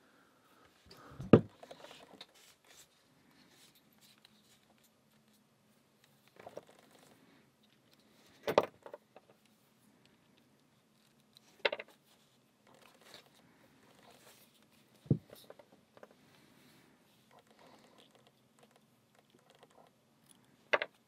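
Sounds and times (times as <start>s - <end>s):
faint handling rustle: 0.5s - 8.5s, 9.2s - 18.8s.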